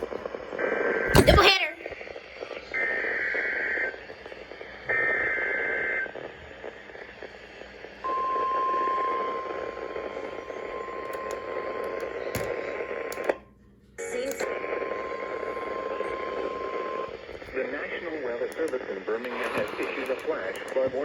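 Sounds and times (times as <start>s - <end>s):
radio static hiss: 0.0s - 13.4s, 14.2s - 21.0s.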